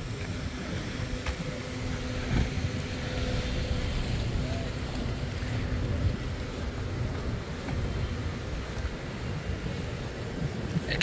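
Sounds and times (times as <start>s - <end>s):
car traffic rumble: 0.0s - 11.0s
steady engine hum: 0.0s - 11.0s.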